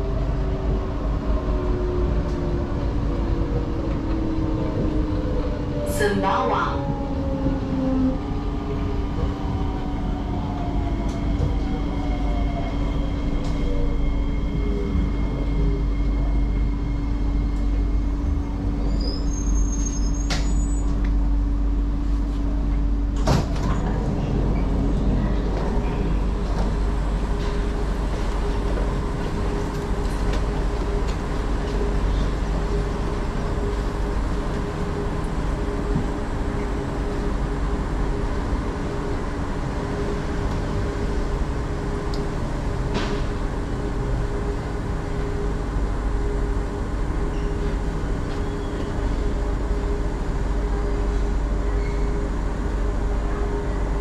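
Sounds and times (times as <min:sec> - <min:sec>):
train humming and rumbling: 0:00.0 - 0:54.0.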